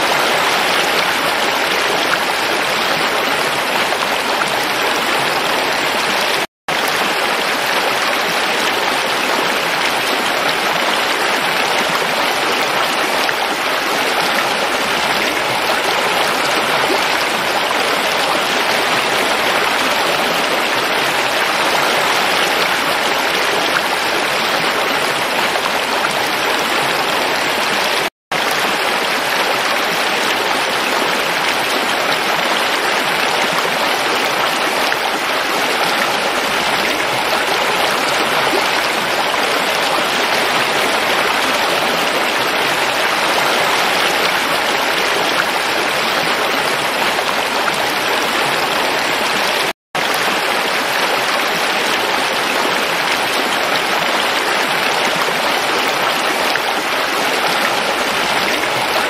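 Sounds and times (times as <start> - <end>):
stream rushing over stones: 0.0 - 59.0.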